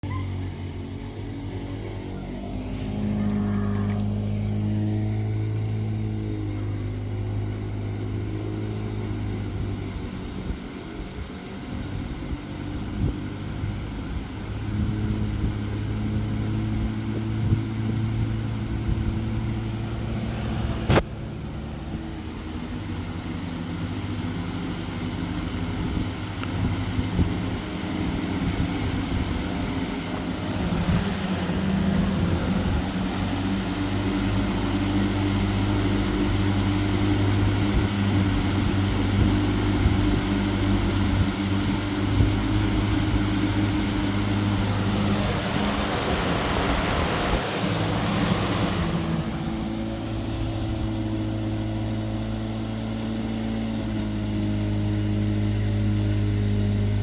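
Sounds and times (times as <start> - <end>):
box fan motor hum: 0.0 - 57.0.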